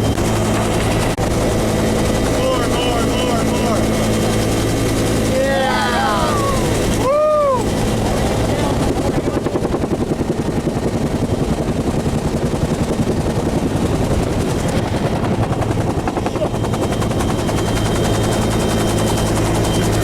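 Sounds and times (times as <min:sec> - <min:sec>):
helicopter rotor chopping: 0:00.0 - 0:20.0.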